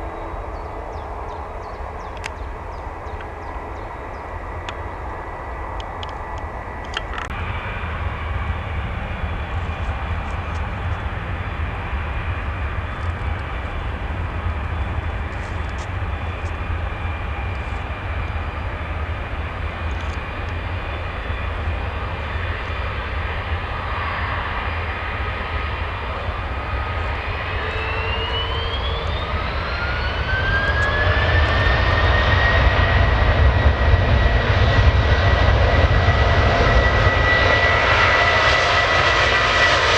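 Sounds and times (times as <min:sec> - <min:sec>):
jet engine whine rising: 0:00.0 - 0:39.9
jet engines rumbling: 0:00.0 - 0:39.9.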